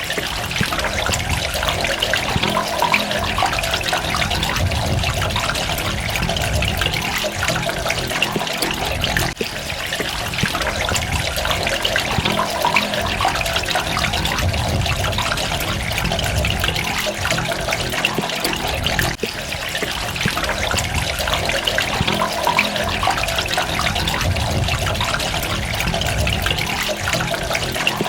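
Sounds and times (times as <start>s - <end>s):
droplets pattering: 0.0s - 28.0s
water trickling and splashing: 0.0s - 28.0s.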